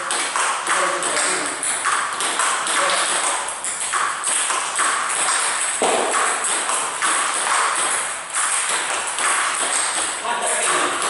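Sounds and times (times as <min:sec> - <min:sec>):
table tennis ball clicking: 0:00.0 - 0:11.0.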